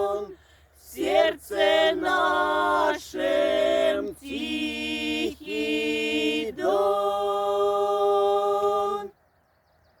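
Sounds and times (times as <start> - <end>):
unaccompanied choir singing: 0.0 - 9.2.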